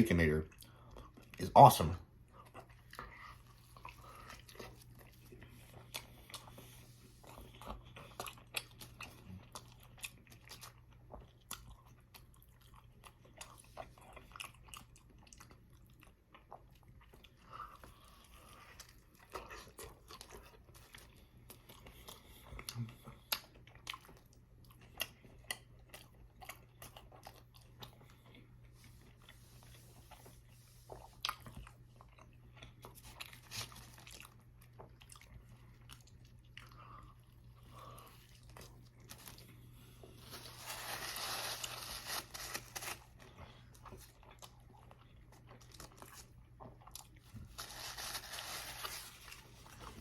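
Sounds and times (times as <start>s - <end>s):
low steady hum: 0.0s - 50.0s
chewing and biting food: 2.1s - 50.0s.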